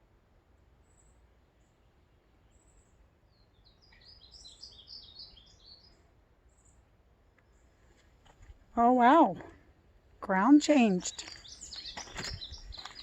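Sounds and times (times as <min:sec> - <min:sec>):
faint songbird chirping: 0:00.5 - 0:13.0.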